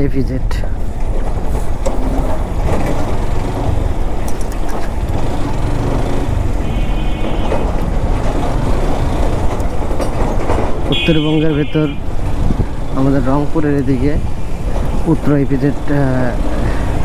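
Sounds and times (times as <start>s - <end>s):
road noise: 0.0s - 17.0s
truck engine: 0.6s - 17.0s
motorcycle engine rumbling: 0.7s - 17.0s.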